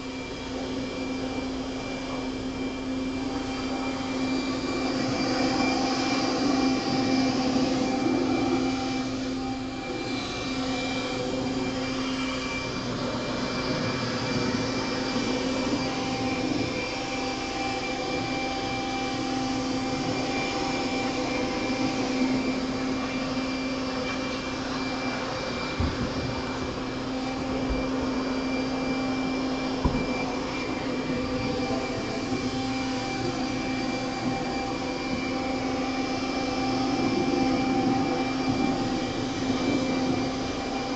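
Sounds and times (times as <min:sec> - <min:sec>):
electric leaf blower running: 0:00.0 - 0:40.9.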